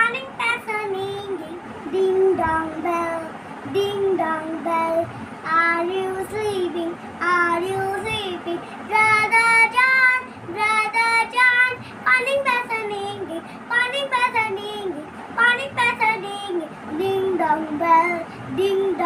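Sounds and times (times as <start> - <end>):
girl singing: 0.0 - 19.0.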